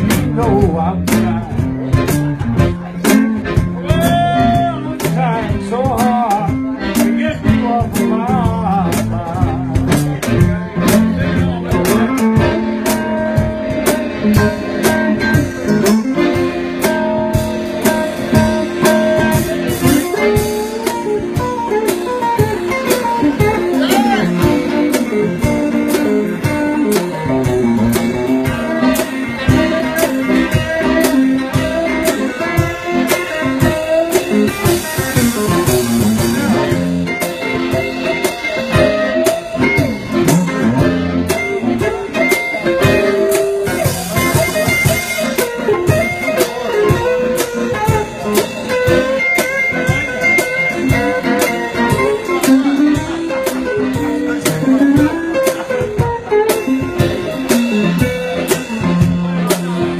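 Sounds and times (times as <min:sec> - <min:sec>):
accordion: 0:00.0 - 0:59.9
electric guitar: 0:00.0 - 0:59.9
steady beat: 0:00.0 - 0:59.9.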